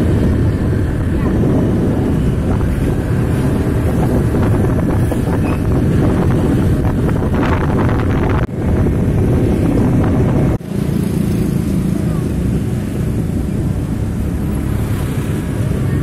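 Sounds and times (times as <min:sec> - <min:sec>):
vehicle rumble: 0:00.0 - 0:16.0
wind buffeting microphone: 0:00.0 - 0:16.0.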